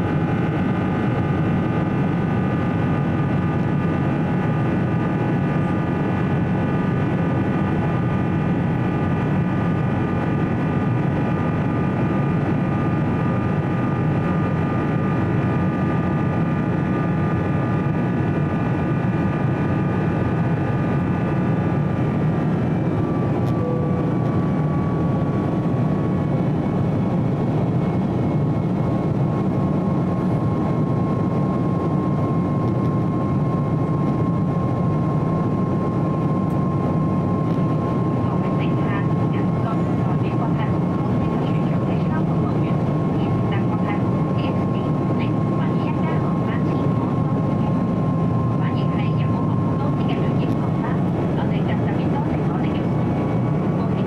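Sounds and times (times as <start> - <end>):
high whining engine tones: 0.0 - 54.0
jet engine roar in cabin: 0.0 - 54.0.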